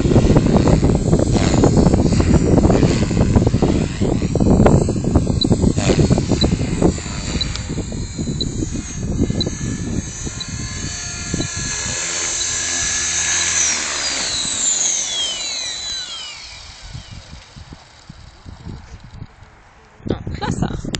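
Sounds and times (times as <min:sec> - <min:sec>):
rc helicopter rotor whining: 0:00.0 - 0:20.0
wind buffeting microphone: 0:00.0 - 0:20.9.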